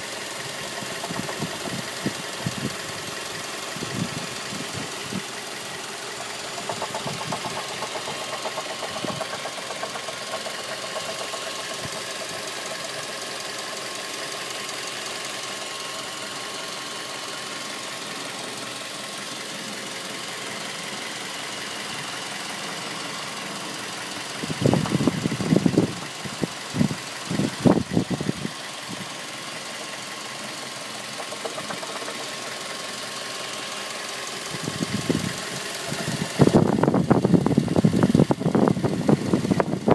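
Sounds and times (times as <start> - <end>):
car engine knocking: 0.0 - 39.9.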